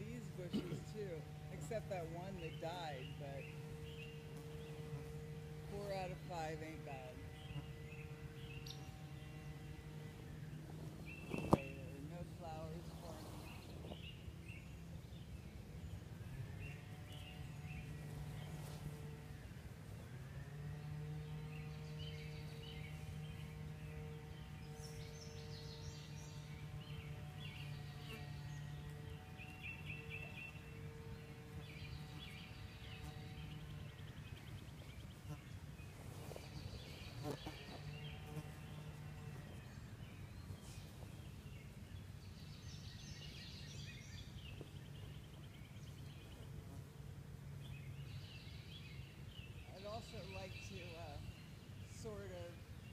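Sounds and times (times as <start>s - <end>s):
birds chirping and singing: 0.0s - 52.9s
steady low hum: 0.0s - 52.9s.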